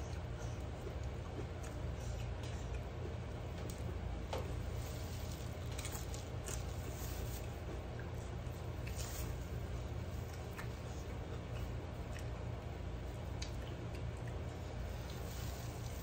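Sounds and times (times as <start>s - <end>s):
chewing with wet mouth smacks: 0.0s - 4.6s, 5.4s - 15.9s
steady low hum: 0.0s - 16.0s.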